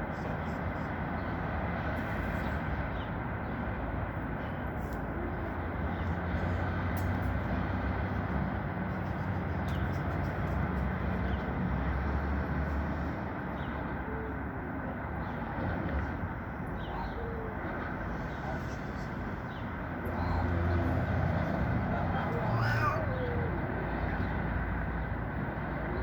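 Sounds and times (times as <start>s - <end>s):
street noise: 0.0s - 26.0s
vehicle engine rumble: 0.0s - 26.0s.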